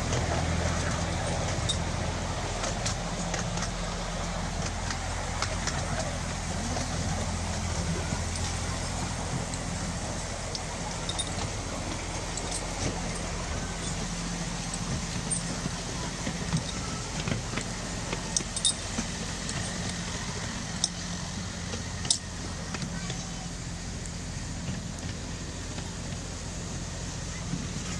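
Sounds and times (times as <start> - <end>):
locomotive humming: 0.0 - 27.9
wheels clicking on rails: 0.0 - 27.9.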